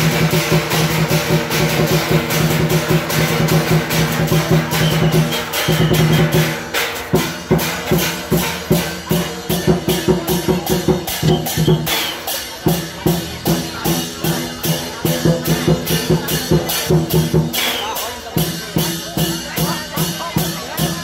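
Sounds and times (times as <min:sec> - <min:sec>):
cymbals clashing: 0:00.0 - 0:21.0
drums beating: 0:00.0 - 0:21.0.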